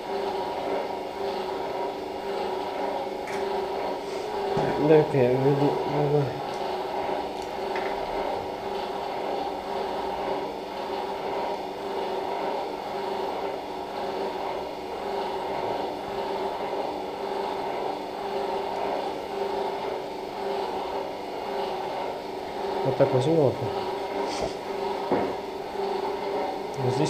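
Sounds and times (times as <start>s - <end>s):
equipment mechanical hum: 0.0s - 27.0s.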